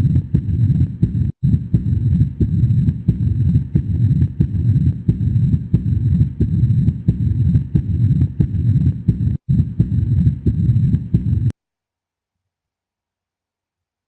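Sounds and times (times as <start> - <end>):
continuous low rumble: 0.0 - 11.5
heartbeat with valve clicks: 0.0 - 11.5.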